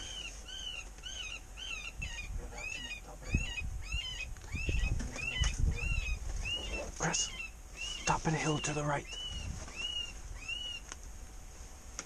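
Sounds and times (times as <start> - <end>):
predator call distress squeal: 0.0 - 10.8.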